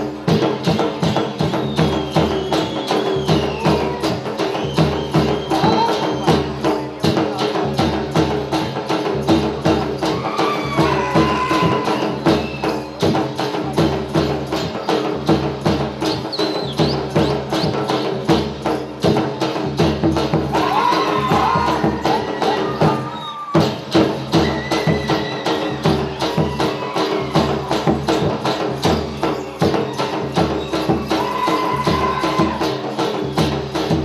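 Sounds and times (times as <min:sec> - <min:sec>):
fast percussion beat: 0:00.0 - 0:34.0.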